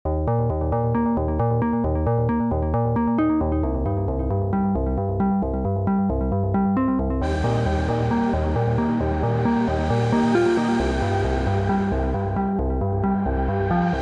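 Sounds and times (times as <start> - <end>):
pulsing bass: 0.0 - 14.0
electronic synthesizer music: 0.1 - 14.0.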